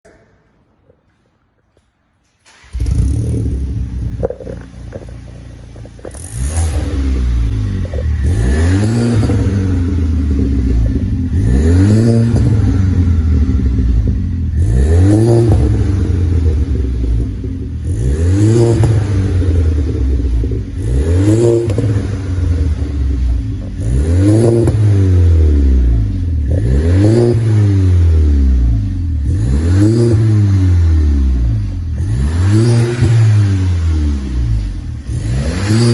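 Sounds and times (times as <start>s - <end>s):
car engine revving: 2.4s - 35.9s.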